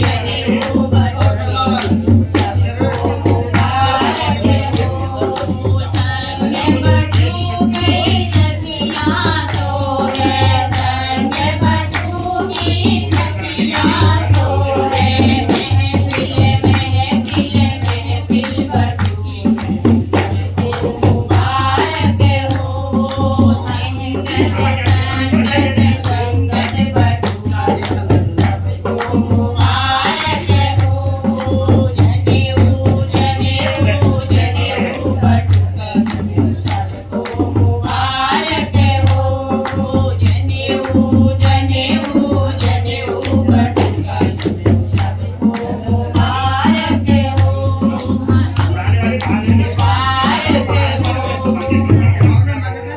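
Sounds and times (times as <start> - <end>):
folk song singing: 0.0 - 52.8
percussion beats: 0.0 - 52.9.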